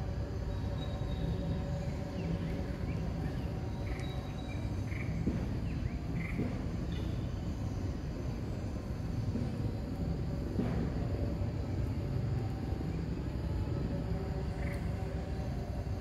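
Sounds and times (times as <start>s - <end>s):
high insect drone: 0.0s - 16.0s
low outdoor rumble: 0.0s - 16.0s.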